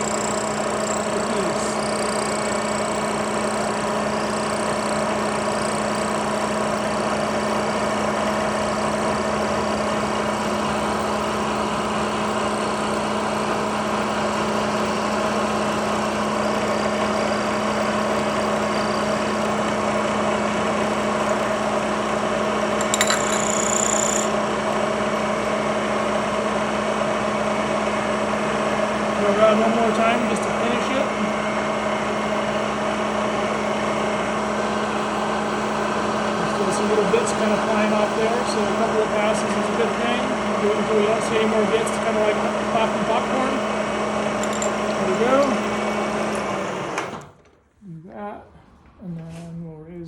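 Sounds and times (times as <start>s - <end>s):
milling machine humming: 0.0s - 47.5s.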